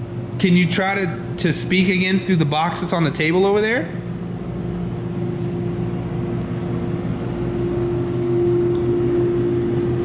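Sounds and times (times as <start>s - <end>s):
appliance humming: 0.0s - 10.0s.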